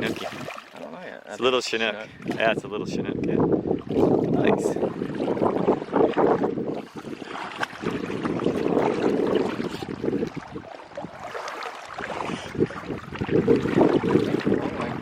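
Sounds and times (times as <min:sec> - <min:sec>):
wind rumbling on microphone: 0:02.0 - 0:15.0.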